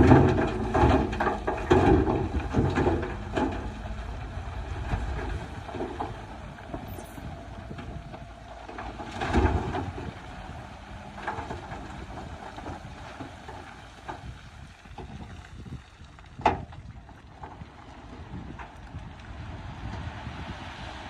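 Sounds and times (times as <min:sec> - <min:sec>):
heavy machinery engine rumble: 0:00.0 - 0:21.0
wind buffeting microphone: 0:00.0 - 0:21.0.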